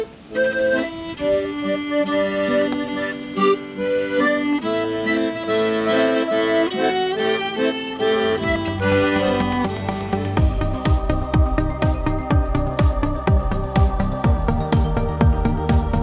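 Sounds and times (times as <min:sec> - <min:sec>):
lively accordion melody: 0:00.0 - 0:16.0.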